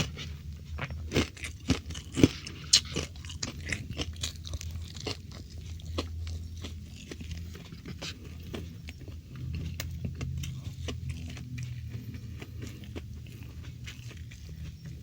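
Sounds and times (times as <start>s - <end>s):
chewing crispy food: 0.0s - 15.0s
low steady hum: 0.0s - 15.0s.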